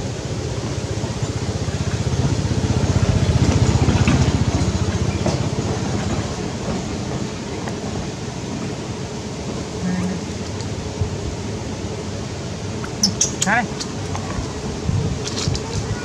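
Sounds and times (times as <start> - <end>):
engine running with low pulsing: 0.0 - 16.0.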